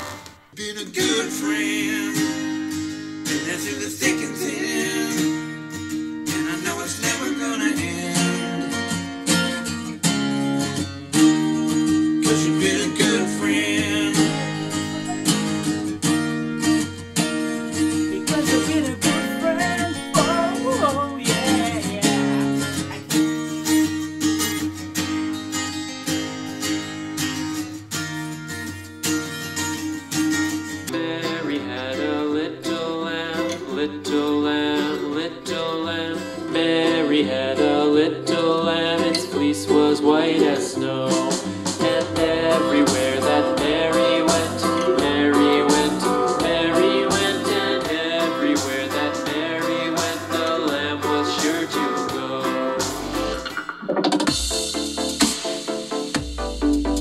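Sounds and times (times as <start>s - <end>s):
song through portable speaker: 0.0s - 24.8s, 30.6s - 57.0s.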